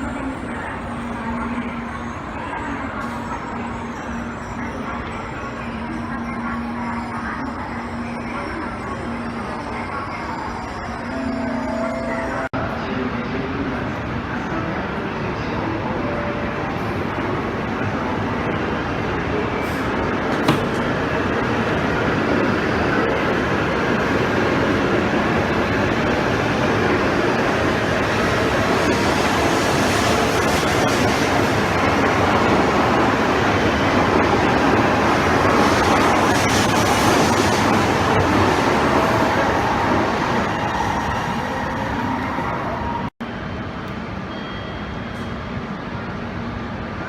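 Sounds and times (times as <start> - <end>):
train running past platform: 0.0 - 47.0.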